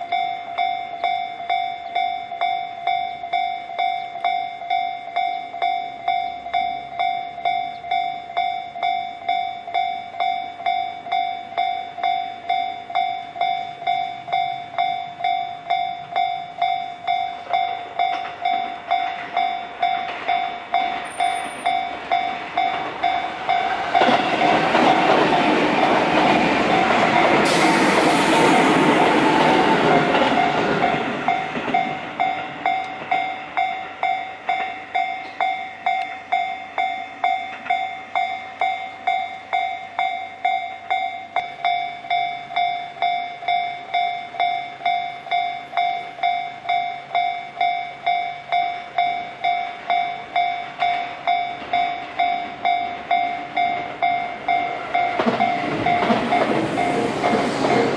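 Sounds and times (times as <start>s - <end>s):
level crossing warning bell: 0.0s - 57.9s
train passing: 0.0s - 57.9s.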